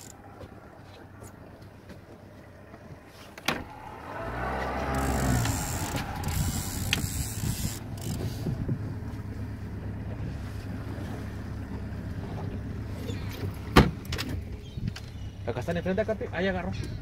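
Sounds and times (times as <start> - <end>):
water noise: 0.0 - 14.7
wind: 0.0 - 17.0.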